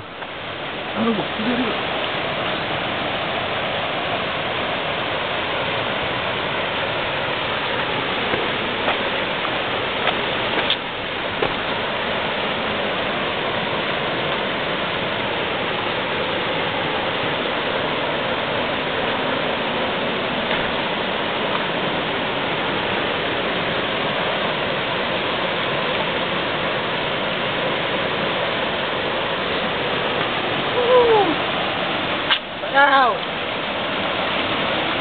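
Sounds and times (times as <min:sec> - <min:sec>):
river rushing over rapids: 0:00.0 - 0:35.0.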